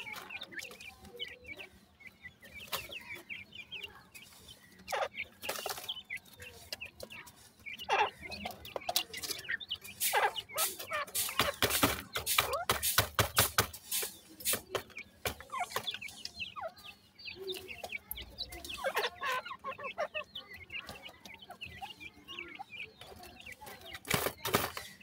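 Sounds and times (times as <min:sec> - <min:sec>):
francolins chirping: 0:00.0 - 0:25.0.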